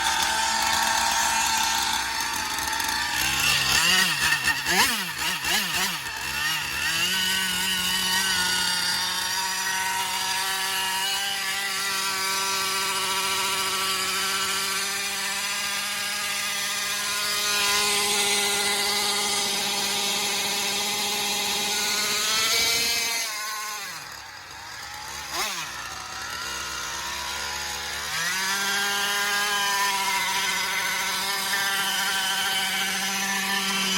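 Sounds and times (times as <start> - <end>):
two-stroke engines revving: 0.0 - 33.9.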